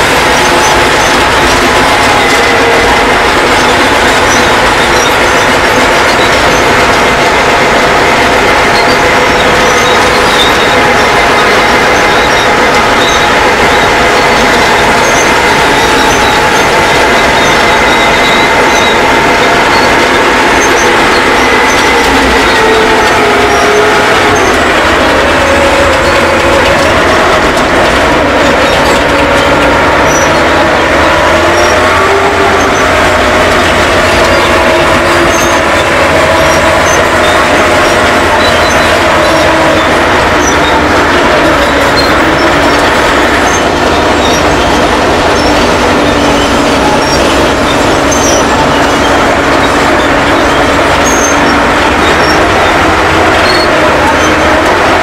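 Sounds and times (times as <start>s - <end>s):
diesel engine running: 0.0s - 55.0s
steel tracks clanking: 0.0s - 55.0s
wavering squeals: 0.0s - 55.0s.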